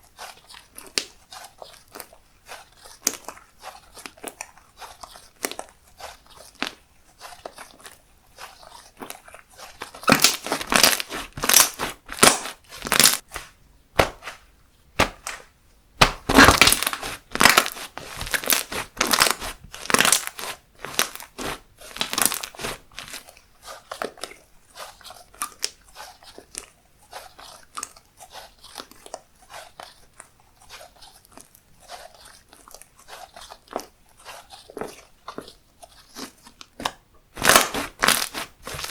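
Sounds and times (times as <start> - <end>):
slime crackling and crunching: 0.0 - 14.4, 15.0 - 38.9.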